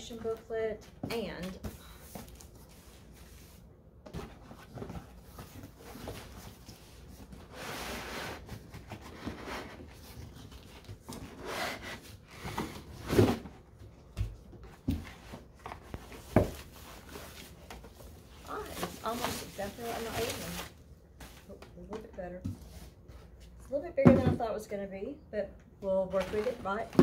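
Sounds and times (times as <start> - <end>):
cardboard rustling: 0.1 - 21.6, 26.0 - 27.0.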